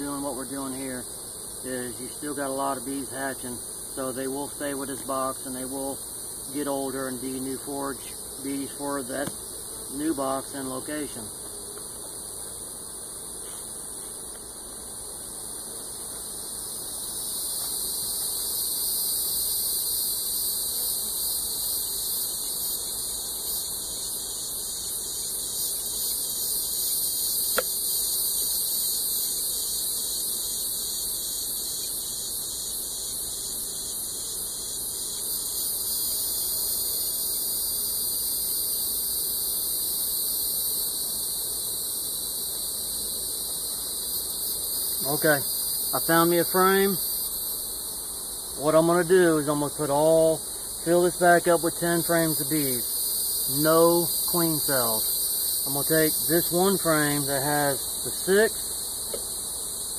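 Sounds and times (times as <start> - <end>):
fast pulsing insect layer: 0.0 - 59.9
insects trilling: 0.0 - 59.9.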